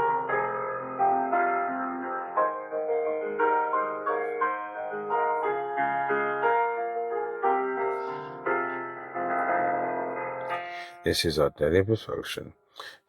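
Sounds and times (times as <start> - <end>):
slow piano melody: 0.0 - 11.7.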